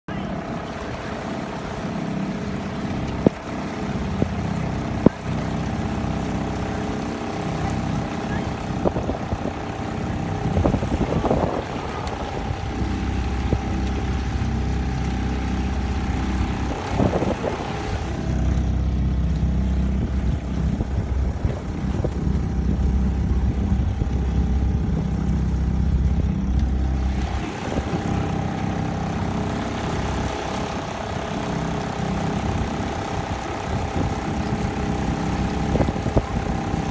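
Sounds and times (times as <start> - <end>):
motorboat engine running: 0.0 - 36.9.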